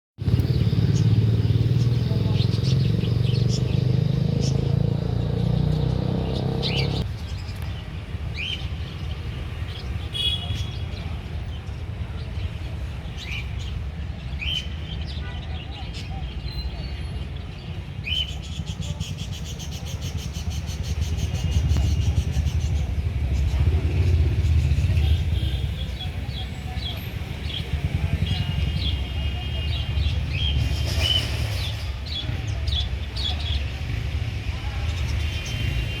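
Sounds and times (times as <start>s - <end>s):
birds chirping: 0.2s - 36.0s.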